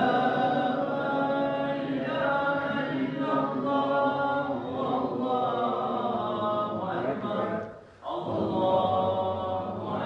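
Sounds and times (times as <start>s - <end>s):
man chanting recitation: 0.0s - 10.0s.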